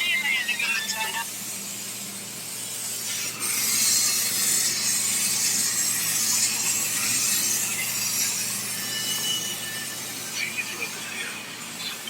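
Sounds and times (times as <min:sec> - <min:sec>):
laser cutter hissing: 0:00.0 - 0:12.0.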